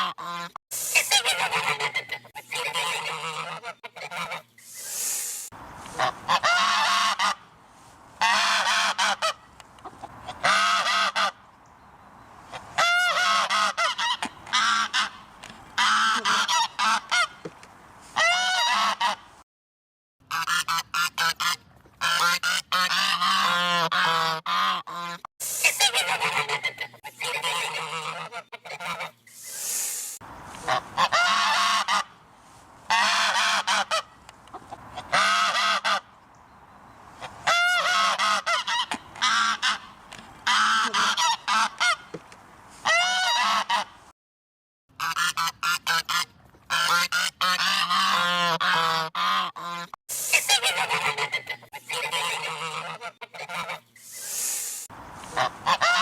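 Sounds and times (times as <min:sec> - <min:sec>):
geese honking: 0:00.0 - 0:05.0, 0:05.8 - 0:07.5, 0:08.2 - 0:11.4, 0:12.5 - 0:17.4, 0:18.2 - 0:19.2, 0:20.3 - 0:29.2, 0:30.5 - 0:32.2, 0:32.9 - 0:36.1, 0:37.2 - 0:42.1, 0:42.8 - 0:43.9, 0:45.0 - 0:54.5, 0:55.2 - 0:56.0.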